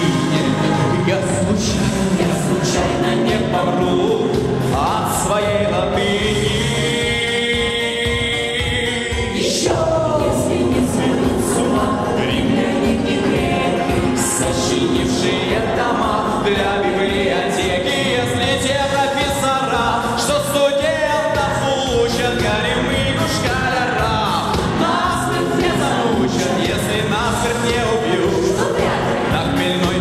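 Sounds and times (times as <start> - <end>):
amplified pop music with beat: 0.0 - 30.0
group singing into microphones: 0.0 - 30.0.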